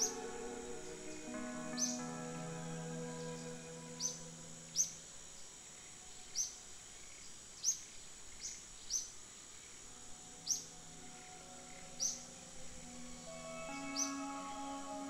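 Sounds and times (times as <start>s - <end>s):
bird chirping: 0.0s - 9.8s, 10.4s - 15.0s
steady high whine: 0.0s - 15.0s.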